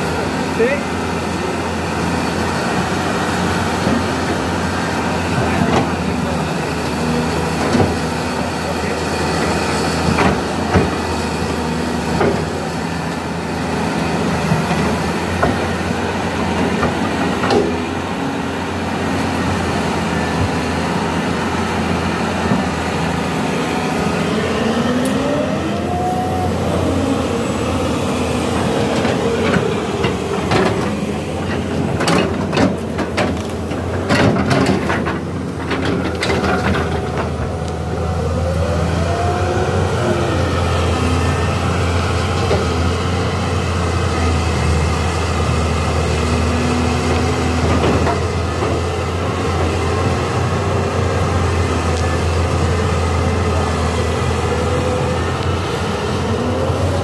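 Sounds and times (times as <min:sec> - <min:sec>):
excavator diesel engine running: 0:00.0 - 0:57.0
hydraulic whine: 0:07.2 - 0:57.0.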